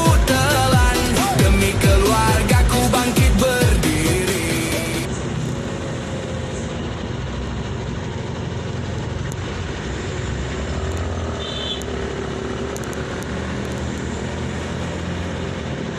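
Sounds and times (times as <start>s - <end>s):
road noise: 0.0s - 15.9s
vehicle engine rumble: 0.0s - 15.9s.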